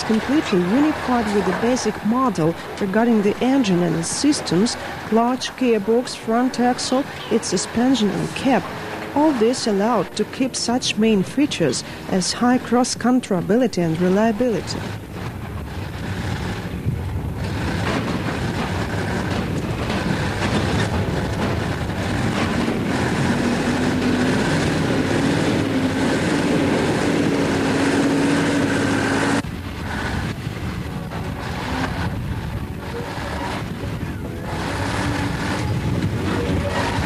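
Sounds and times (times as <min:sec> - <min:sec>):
truck engine running: 0:00.0 - 0:37.0
wind buffeting microphone: 0:00.0 - 0:37.0.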